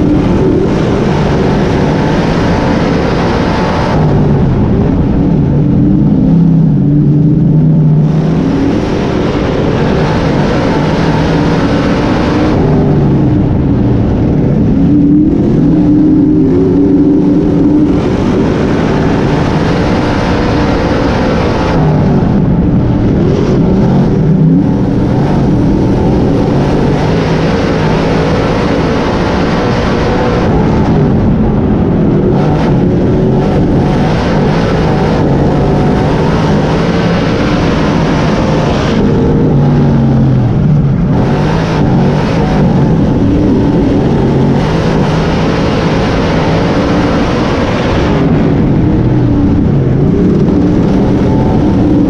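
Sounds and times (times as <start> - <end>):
race car engine under load: 0.0 - 52.0.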